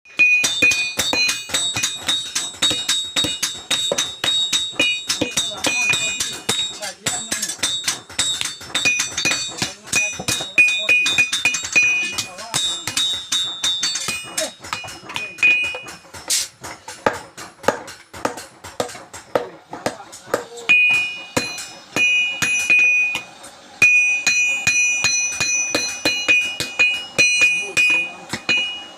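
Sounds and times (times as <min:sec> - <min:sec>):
hammer striking steel on anvil: 0:00.1 - 0:28.9.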